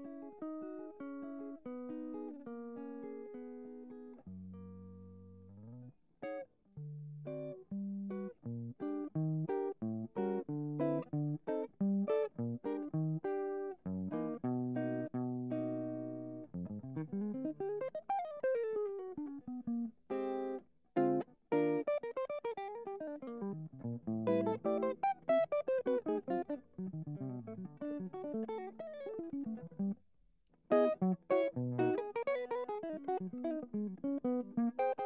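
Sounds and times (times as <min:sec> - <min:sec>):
plucked guitar music: 0:00.0 - 0:35.0.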